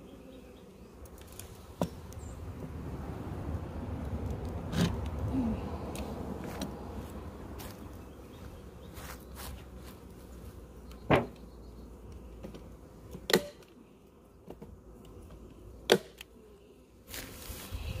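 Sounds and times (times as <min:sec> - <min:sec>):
bees buzzing faintly: 0:00.0 - 0:18.0.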